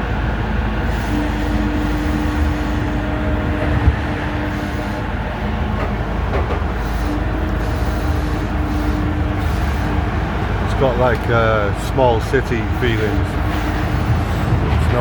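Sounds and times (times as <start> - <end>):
steady hum: 0.0 - 15.0
train running rumble: 0.0 - 15.0.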